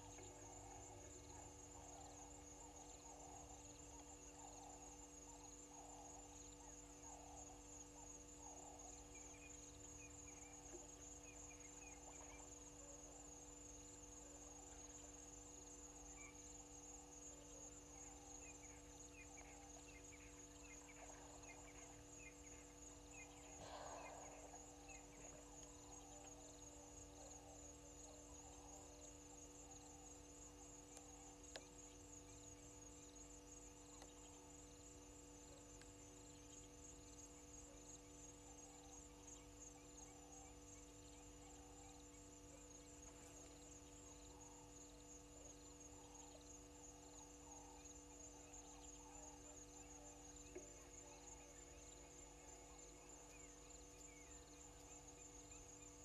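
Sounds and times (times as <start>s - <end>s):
insect chirps: 0.0s - 56.0s
insects trilling: 0.0s - 56.0s
low electrical hum: 0.0s - 56.0s.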